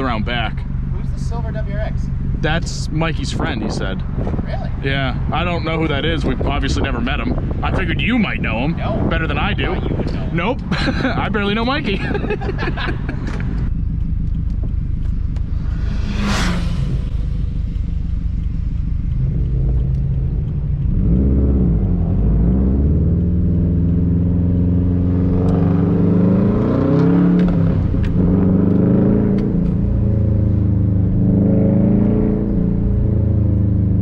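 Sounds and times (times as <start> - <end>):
car engine rumbling and revving: 0.0 - 34.0.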